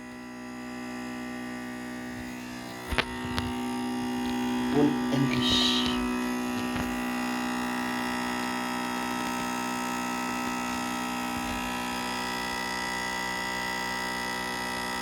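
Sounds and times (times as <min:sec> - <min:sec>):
computer loud steady buzz: 0:00.0 - 0:15.0.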